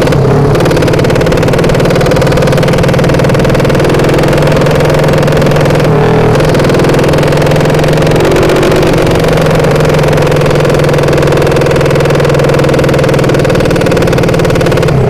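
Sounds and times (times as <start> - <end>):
drag motorcycle engine running: 0.0 - 15.0.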